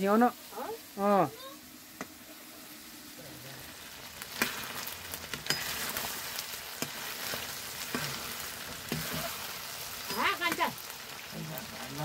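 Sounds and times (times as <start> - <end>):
curry sizzling in a wok: 0.0 - 12.0.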